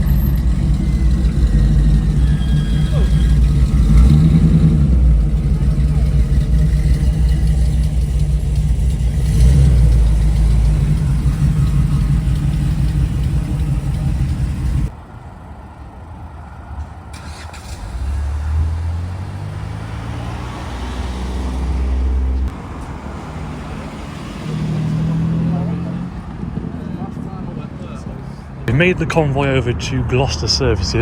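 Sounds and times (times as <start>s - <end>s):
car accelerating: 0.0s - 14.9s, 17.1s - 28.1s
car engine droning: 0.0s - 31.0s.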